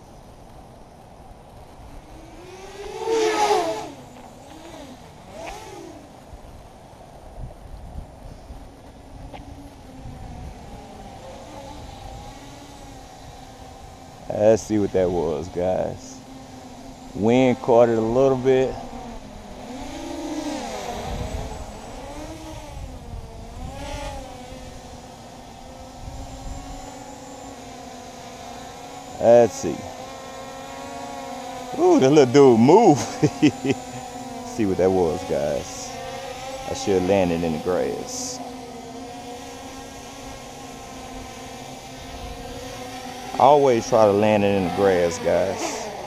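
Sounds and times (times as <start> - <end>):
quadcopter motors whining: 0.0 - 46.0.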